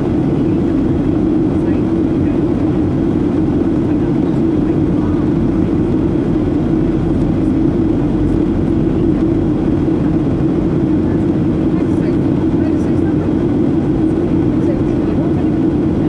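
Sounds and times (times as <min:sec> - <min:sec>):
airflow over fuselage: 0:00.0 - 0:16.0
jet engine rumble and hum: 0:00.0 - 0:16.0.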